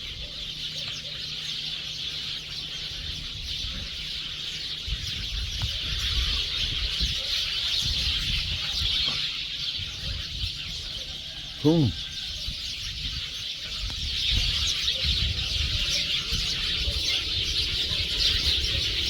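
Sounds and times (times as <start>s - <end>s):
flock of birds chattering: 0.0s - 19.0s.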